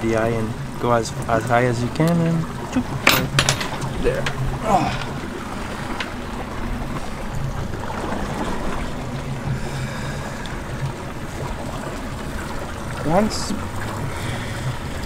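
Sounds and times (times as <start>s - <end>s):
boat engine running: 0.0s - 15.0s
water noise: 0.0s - 15.0s
wind: 0.0s - 15.0s.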